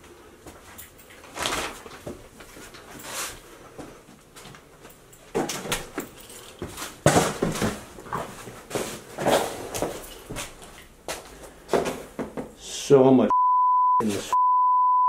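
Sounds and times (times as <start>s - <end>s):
footsteps and scuffs on floor: 0.0s - 12.6s.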